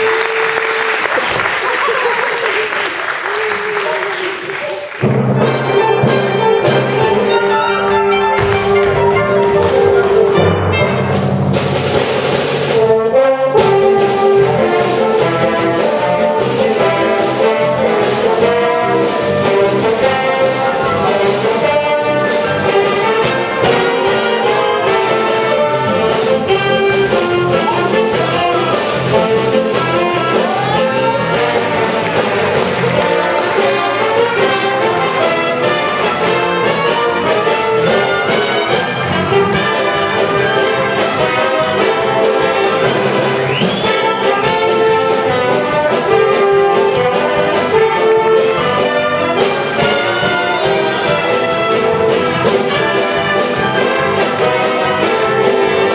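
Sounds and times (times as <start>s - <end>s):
brass band playing lively tune: 0.0s - 55.9s.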